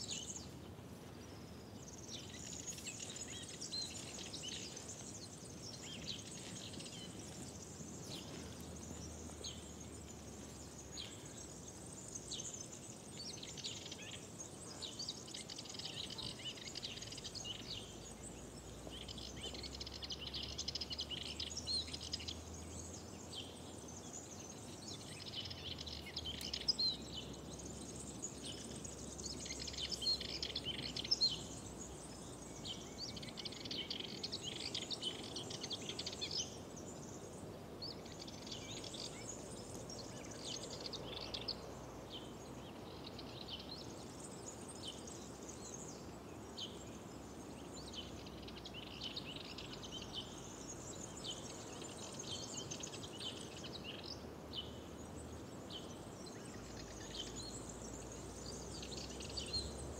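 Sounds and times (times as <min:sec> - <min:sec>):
faint background hiss: 0:00.0 - 0:59.9
small birds chirping and trilling: 0:00.0 - 0:59.9.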